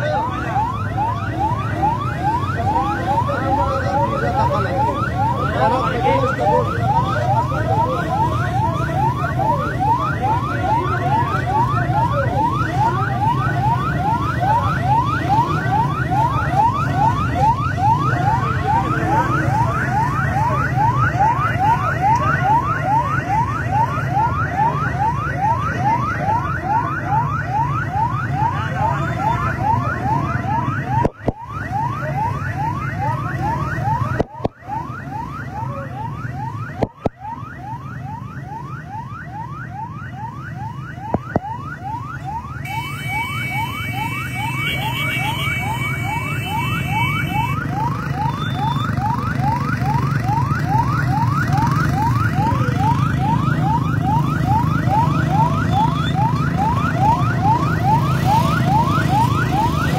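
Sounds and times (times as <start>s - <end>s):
ambulance siren yelping: 0.0s - 59.9s.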